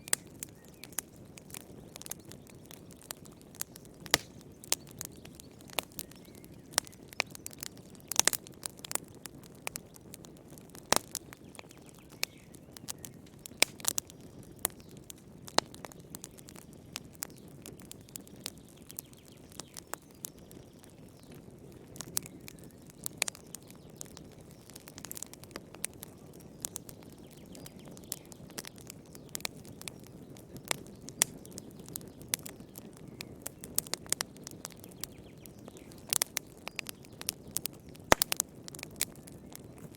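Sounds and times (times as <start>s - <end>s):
fire popping and crackling: 0.0s - 39.9s.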